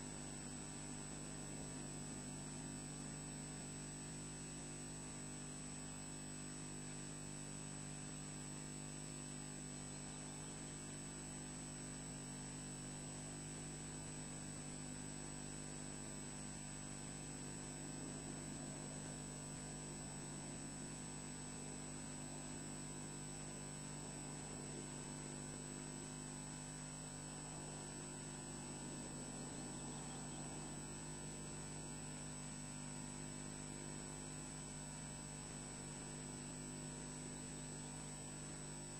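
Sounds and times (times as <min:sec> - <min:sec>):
electrical hum: 0:07.6 - 0:38.9.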